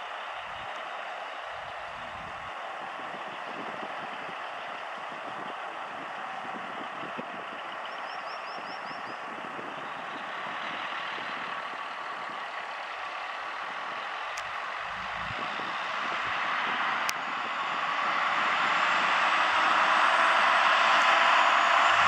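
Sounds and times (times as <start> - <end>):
diesel truck driving slowly: 0.0 - 22.0.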